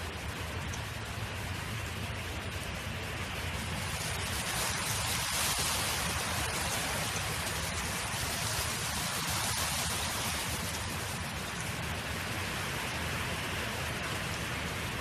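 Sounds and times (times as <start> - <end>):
wind blowing across open field: 0.0 - 15.0.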